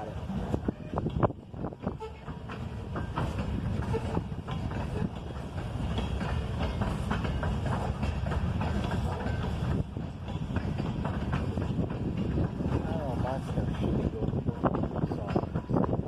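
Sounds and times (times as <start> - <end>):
rumble of rail cars: 0.0 - 16.0
wheels clanking over rails: 0.0 - 16.0.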